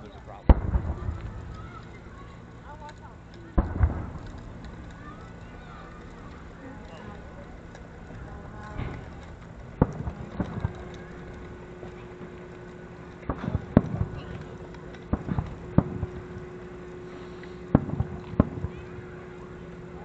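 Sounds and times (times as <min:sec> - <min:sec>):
distant fireworks bangs: 0:00.0 - 0:20.0
faint steady hum: 0:00.0 - 0:20.0.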